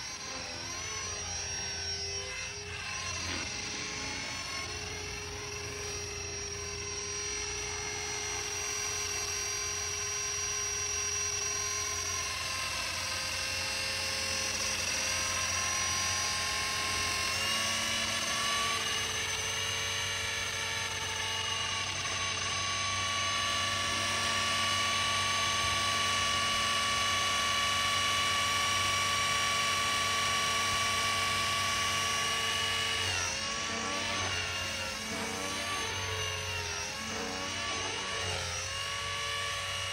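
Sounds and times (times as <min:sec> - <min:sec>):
electric rc helicopter whine: 0:00.0 - 0:39.9.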